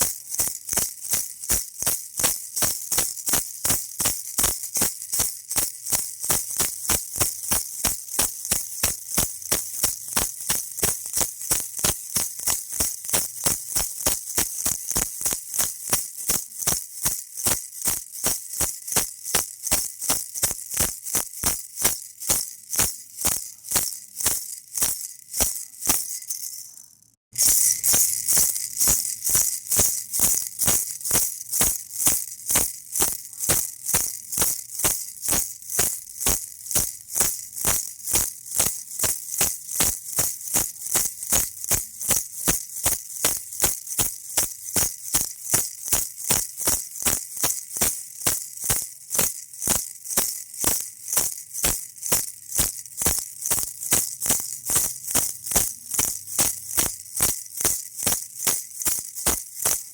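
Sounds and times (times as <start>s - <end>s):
baby rattle shaking: 0.0s - 59.9s.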